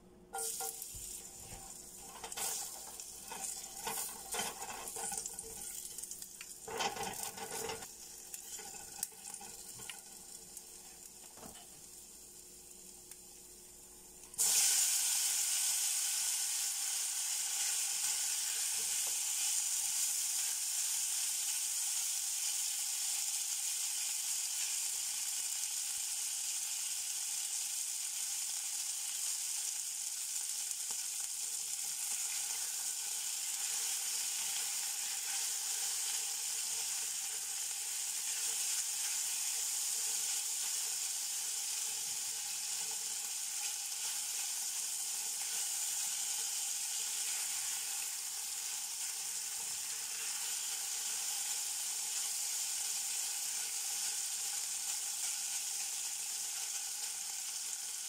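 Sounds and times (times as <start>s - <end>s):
meat sizzling in a pan: 0.0s - 58.0s
oil crackling in a pan: 0.3s - 58.0s.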